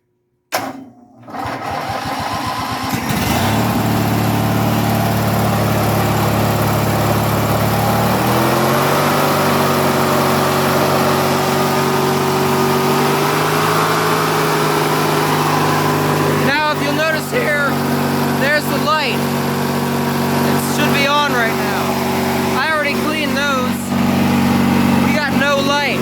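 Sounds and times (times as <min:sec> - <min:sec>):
engine cranking on starter: 0:00.5 - 0:26.0
tractor engine running: 0:01.4 - 0:26.0.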